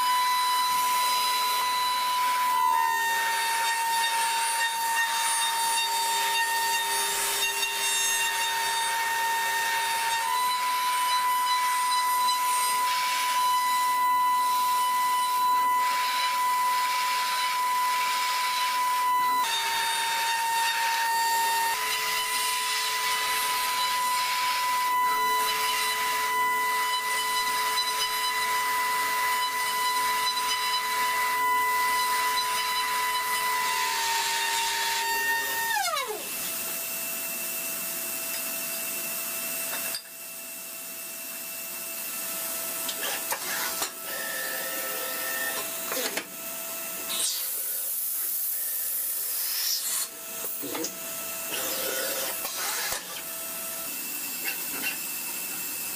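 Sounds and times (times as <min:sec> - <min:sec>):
milling machine spindle whine: 0:00.0 - 0:40.2, 0:41.3 - 0:55.9.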